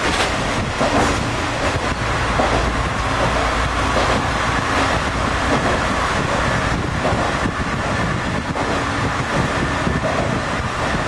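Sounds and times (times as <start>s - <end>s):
railcar running through tunnel: 0.0s - 11.0s.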